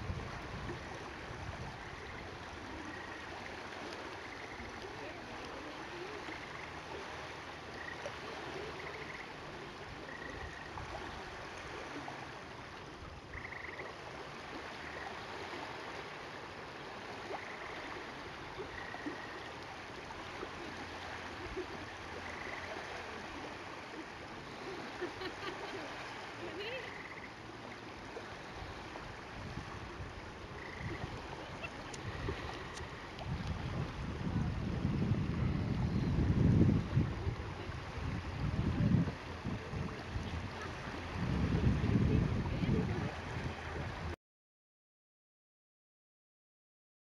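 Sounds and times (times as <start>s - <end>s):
small waves lapping on shore: 0.0s - 44.2s.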